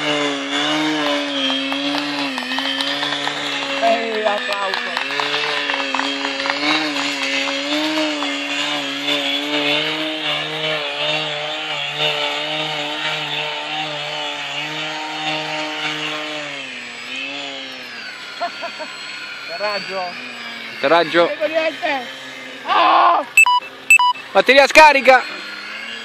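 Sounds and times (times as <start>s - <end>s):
model airplane motor buzzing: 0.0s - 26.0s.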